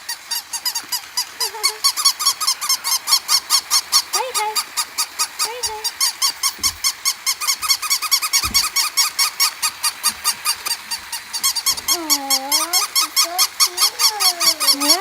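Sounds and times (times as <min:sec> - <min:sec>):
puppies squeaking and yipping: 0:00.0 - 0:15.0
puppy whining: 0:00.6 - 0:15.0.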